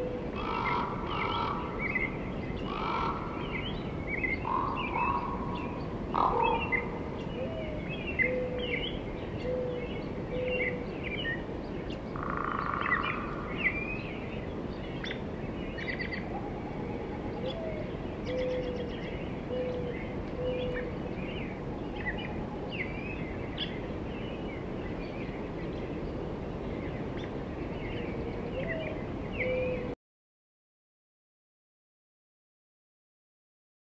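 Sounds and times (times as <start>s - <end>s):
birds chirping and singing: 0.0s - 29.9s
low evenly spaced bird notes: 0.0s - 30.0s.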